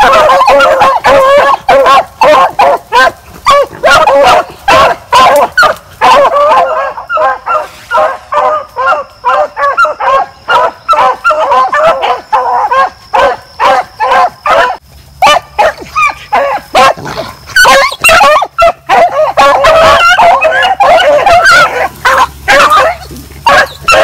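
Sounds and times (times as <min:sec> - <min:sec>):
hounds baying: 0:00.0 - 0:24.0.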